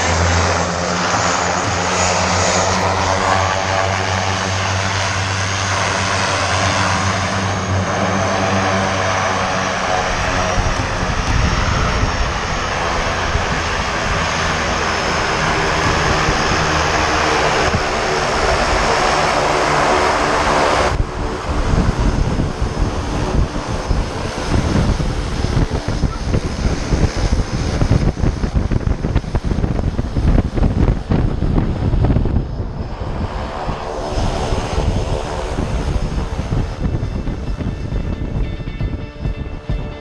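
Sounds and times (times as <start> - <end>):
propeller plane engine running: 0.0 - 40.0
propeller wash buffeting microphone: 0.0 - 40.0.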